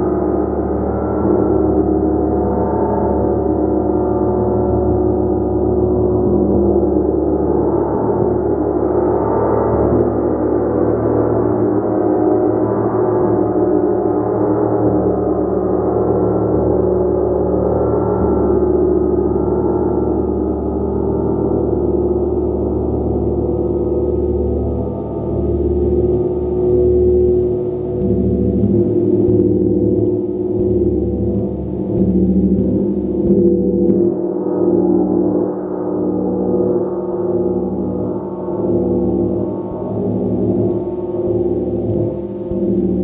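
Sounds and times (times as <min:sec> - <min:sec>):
large gong wash: 0:00.0 - 0:43.0.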